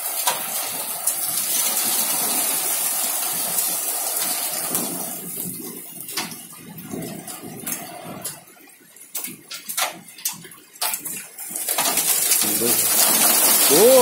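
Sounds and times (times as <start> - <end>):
hail and rain hiss: 0.0 - 14.0
hailstones clicking: 0.0 - 14.0.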